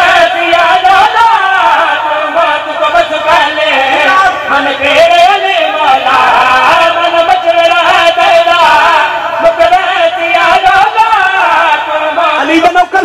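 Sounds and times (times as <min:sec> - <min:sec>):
man singing through microphone: 0:00.0 - 0:13.0.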